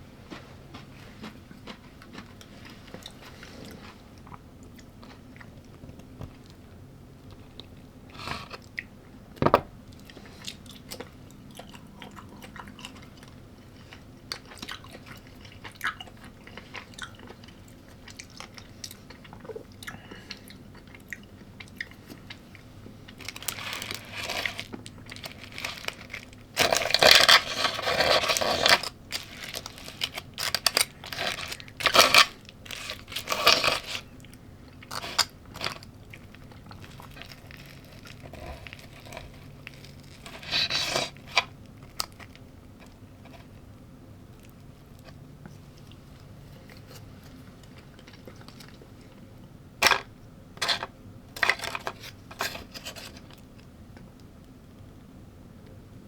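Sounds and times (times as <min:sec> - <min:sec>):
chewing and crunching food: 0:00.2 - 0:54.6.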